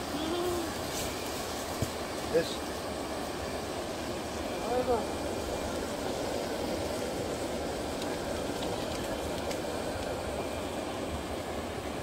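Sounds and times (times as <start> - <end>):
gas burner hissing: 0.0 - 12.0
water simmering and bubbling: 0.0 - 12.0.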